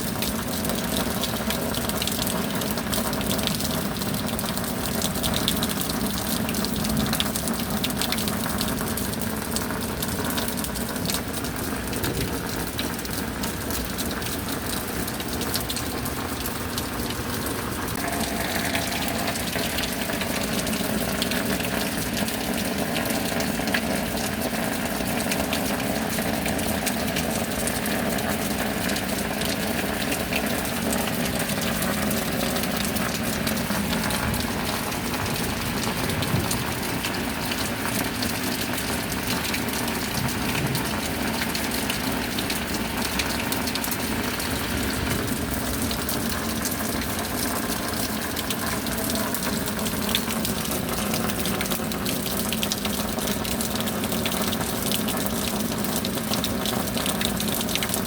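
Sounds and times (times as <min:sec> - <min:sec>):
steady rain: 0:00.0 - 0:58.0
water running and splashing: 0:00.0 - 0:58.0.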